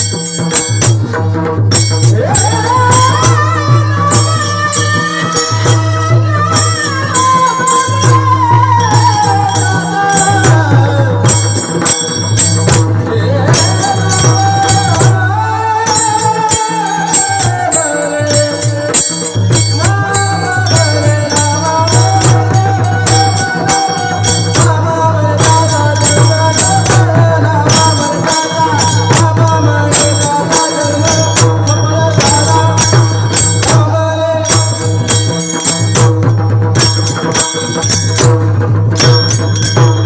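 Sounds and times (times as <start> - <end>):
hand cymbals clashing: 0.0 - 40.0
hand drum strokes: 0.0 - 40.0
person singing: 2.0 - 36.3.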